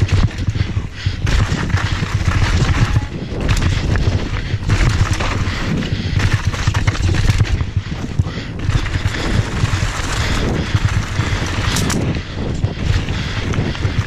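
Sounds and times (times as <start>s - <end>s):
bike knocking over bumps: 0.0s - 14.0s
bike tyres rattling on gravel: 0.0s - 14.0s.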